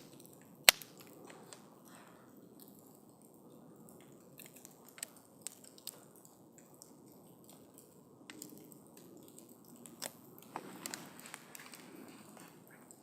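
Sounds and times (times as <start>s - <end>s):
campfire crackling: 0.0s - 13.0s
wood popping in fire: 0.0s - 13.0s.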